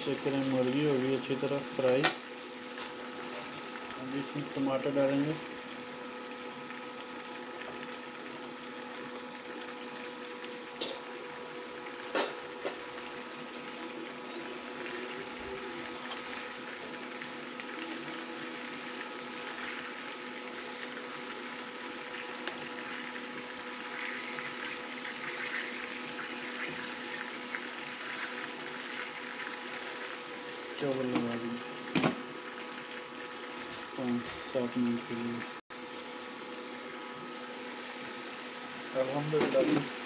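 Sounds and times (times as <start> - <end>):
chicken sizzling in hot oil: 0.0 - 40.0.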